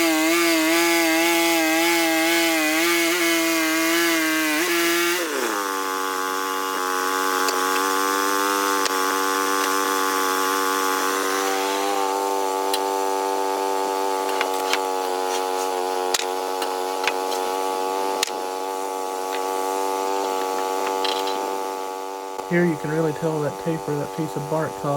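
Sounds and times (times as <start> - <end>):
sawmill engine running: 0.0 - 24.9.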